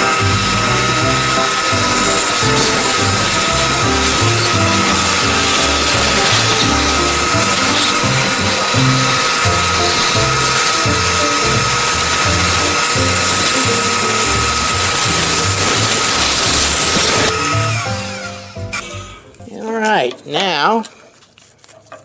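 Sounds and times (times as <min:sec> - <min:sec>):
band saw cutting wood: 0:00.0 - 0:19.0.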